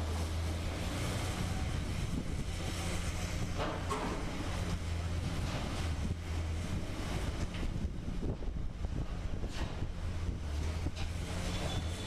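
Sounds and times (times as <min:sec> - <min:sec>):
diesel engine hum: 0:00.0 - 0:12.0.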